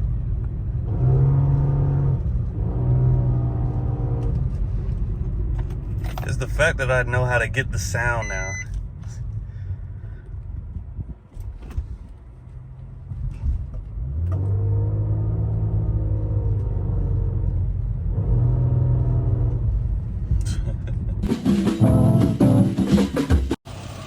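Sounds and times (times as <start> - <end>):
car engine and exhaust rumble: 0.0 - 22.8.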